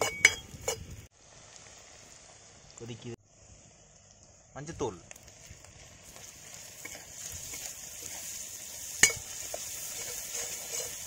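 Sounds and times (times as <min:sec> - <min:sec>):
onions sizzling in pan: 0:00.0 - 0:11.0.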